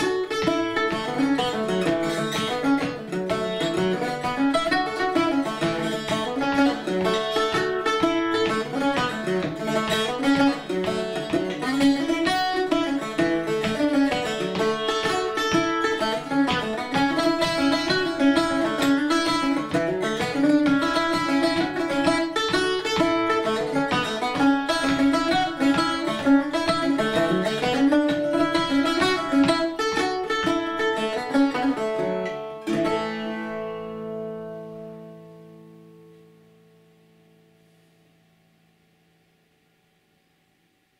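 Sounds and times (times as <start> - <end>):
bouzouki playing a jig: 0.0 - 37.5.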